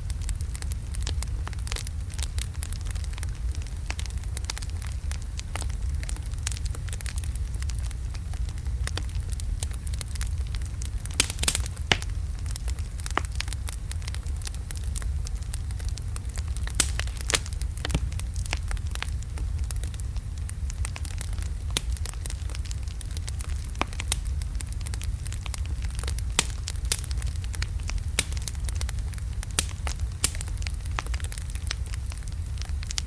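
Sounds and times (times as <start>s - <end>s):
crackles and pops of burning wood: 0.0s - 33.0s
wood fire rumbling: 0.0s - 33.0s.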